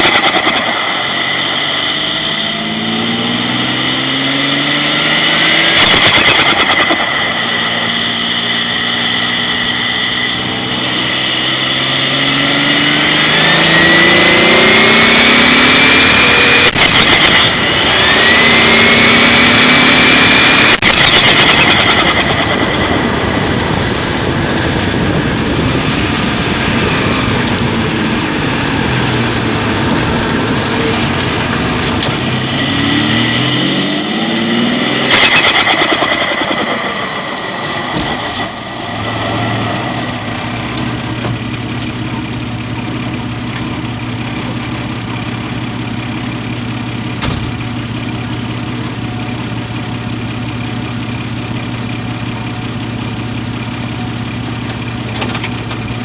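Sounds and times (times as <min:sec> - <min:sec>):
car engine idling: 0:00.0 - 0:56.0
car engine revving: 0:00.0 - 0:56.0
compressor surge flutter: 0:00.0 - 0:56.0.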